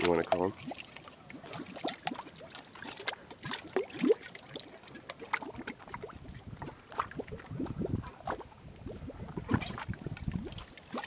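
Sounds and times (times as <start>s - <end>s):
mud pots bubbling: 0.0s - 11.0s.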